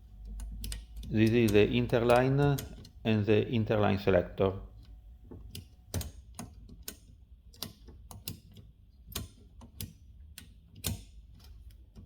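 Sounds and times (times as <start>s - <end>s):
typewriter ratchet clicking: 0.1s - 3.2s, 4.8s - 12.0s.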